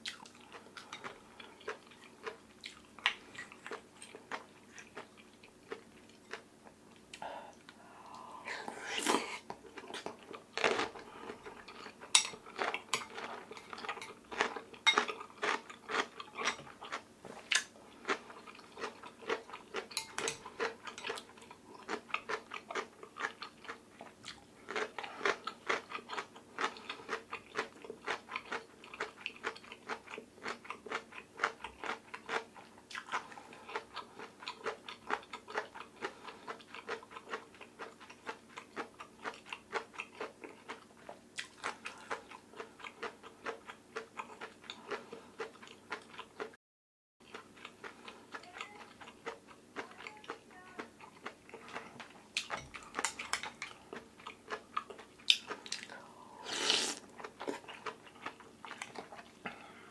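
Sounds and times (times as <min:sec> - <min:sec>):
close chewing with mouth clicks: 0:00.0 - 0:46.5, 0:47.2 - 0:59.8.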